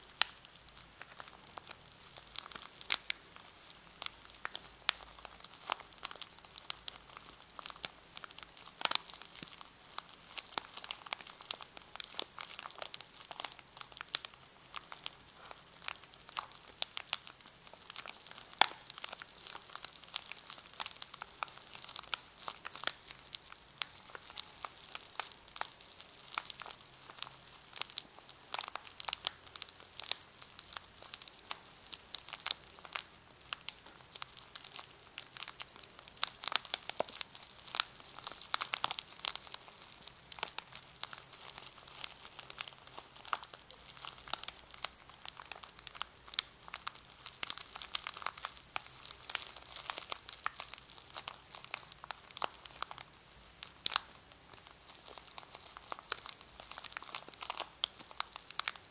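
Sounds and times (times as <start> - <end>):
plastic wrapping crinkling: 0.0 - 58.9.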